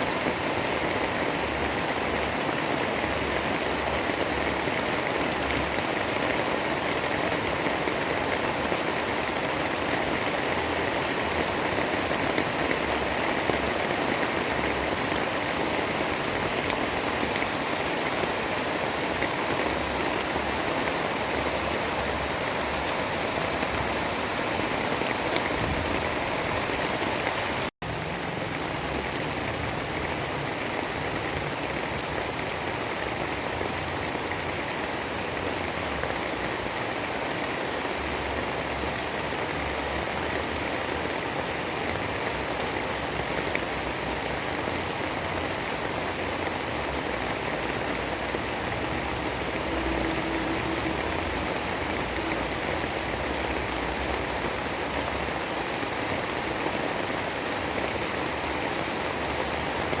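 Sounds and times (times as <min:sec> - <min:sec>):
steady rain: 0:00.0 - 1:00.0.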